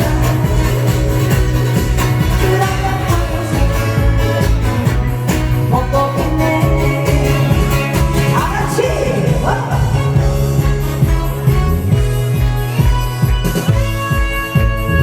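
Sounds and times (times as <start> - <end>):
song with steady beat and singing: 0.0 - 15.0.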